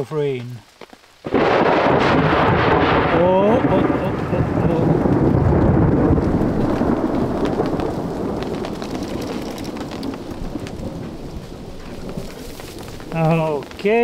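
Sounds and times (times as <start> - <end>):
steady rain: 0.0 - 14.0
thunder rumbling: 1.2 - 14.0.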